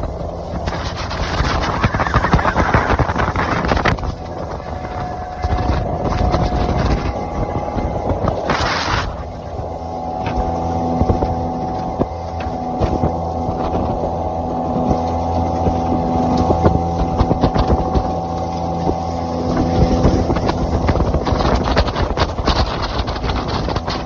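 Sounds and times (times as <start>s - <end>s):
motorboat motor: 0.0s - 24.0s
sharp knocks and splashes: 0.0s - 24.0s
water noise: 0.0s - 24.0s
wind on microphone: 0.0s - 24.0s.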